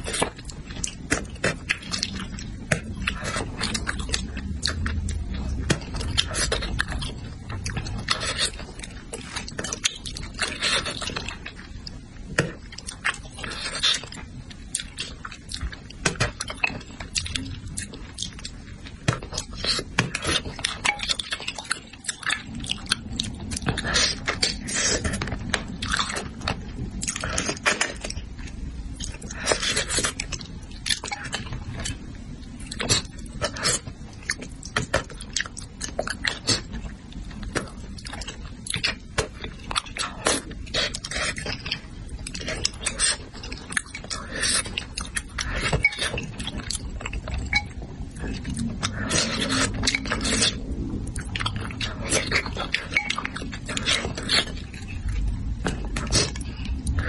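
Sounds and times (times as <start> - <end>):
person chewing and smacking: 0.0 - 57.0.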